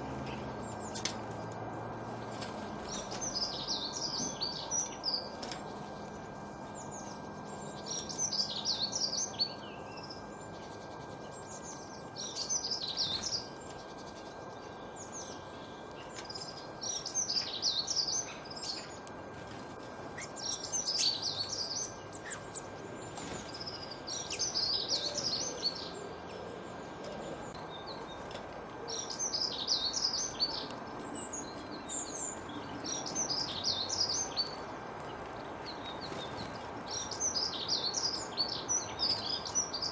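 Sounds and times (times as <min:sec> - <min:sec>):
bird chirping: 0:02.8 - 0:39.9.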